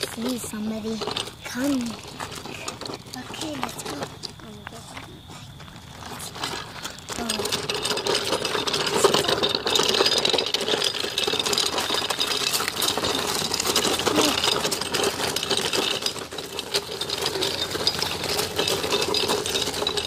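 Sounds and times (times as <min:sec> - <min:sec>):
bicycle rattling and clicking: 0:00.0 - 0:20.0.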